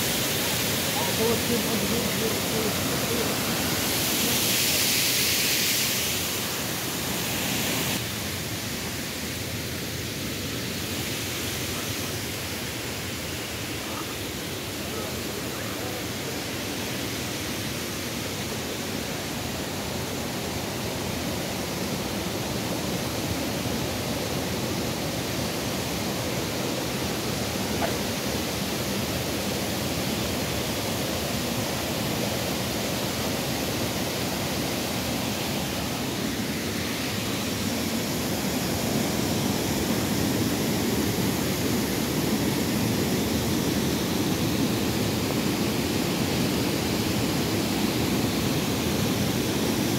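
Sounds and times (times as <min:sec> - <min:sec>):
stream rushing over cascades: 0:00.0 - 0:49.9.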